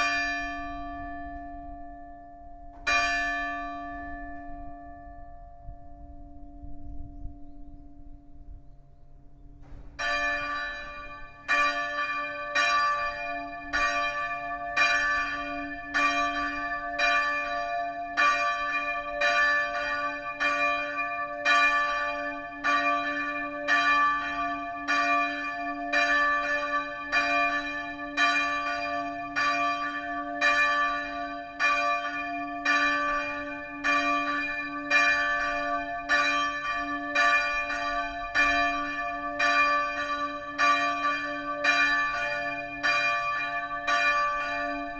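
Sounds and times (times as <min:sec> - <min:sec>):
church bell ringing: 0:00.0 - 0:44.9.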